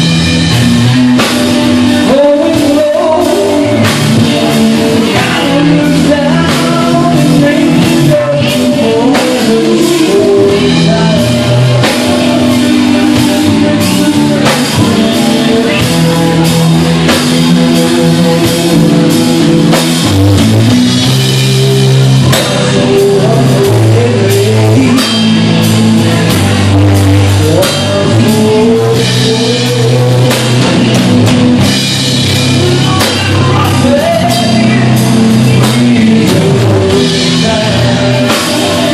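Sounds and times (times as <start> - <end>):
bass guitar: 0.0 - 38.9
drum kit: 0.0 - 38.9
electric guitar with sliding pitches: 0.0 - 38.9.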